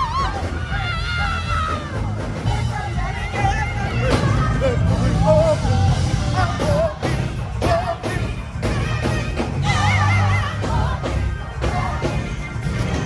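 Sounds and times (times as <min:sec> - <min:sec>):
heavy low bass: 0:00.0 - 0:13.0
live rock music: 0:00.0 - 0:13.0
person singing with vibrato: 0:00.0 - 0:13.0.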